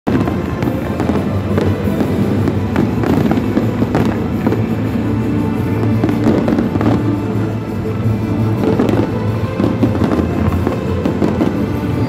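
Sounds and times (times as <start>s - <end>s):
fireworks crackling and banging: 0.1s - 12.0s
music: 0.1s - 12.0s.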